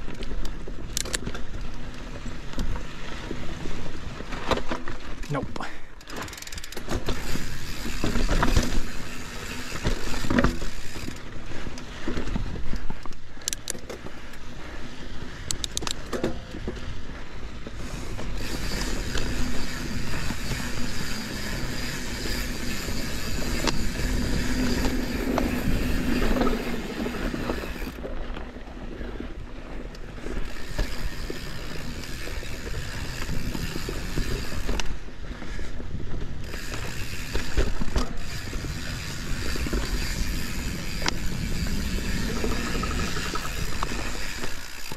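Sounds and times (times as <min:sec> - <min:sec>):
bike clicks and rattles: 0:00.0 - 0:44.9
bike tyres on dirt: 0:00.0 - 0:44.9.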